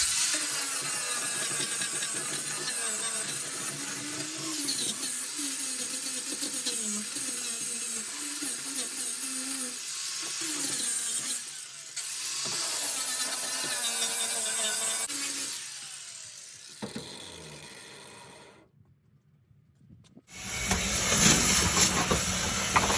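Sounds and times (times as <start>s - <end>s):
grinder grinding on steel: 0.0s - 18.7s, 20.3s - 22.9s.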